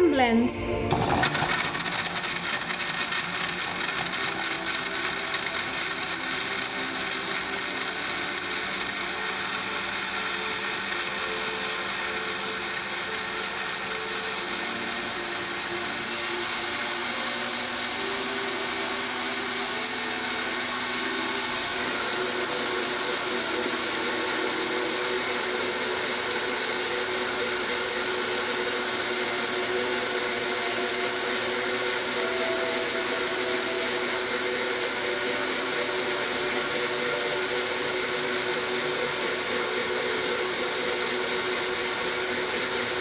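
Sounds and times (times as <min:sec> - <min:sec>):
blender grinding: 0:00.9 - 0:43.0.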